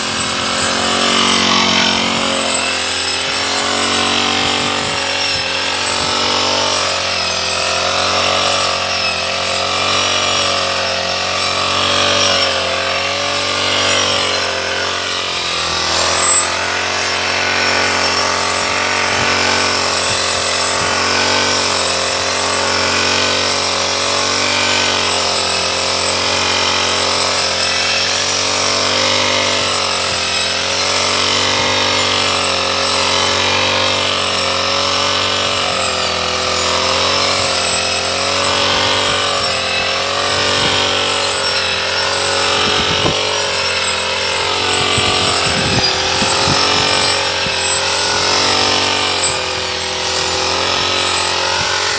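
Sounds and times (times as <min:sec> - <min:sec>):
brush cutter engine running: 0:00.0 - 0:51.9.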